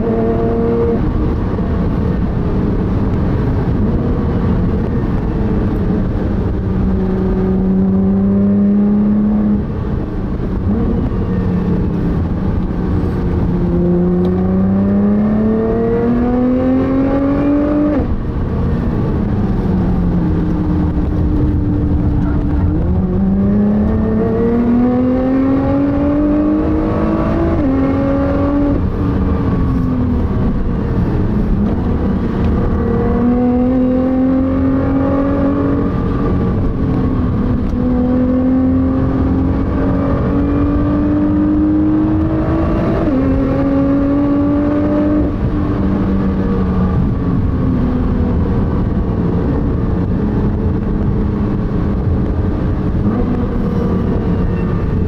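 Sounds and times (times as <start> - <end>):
car engine accelerating: 0.0 - 55.0
tyre and road noise: 0.0 - 55.0.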